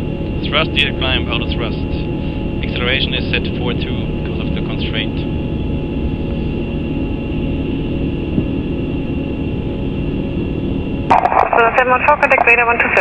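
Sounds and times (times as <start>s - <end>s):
aircraft cockpit rumble and hiss: 0.0s - 13.0s
faint steady tones: 0.0s - 13.0s.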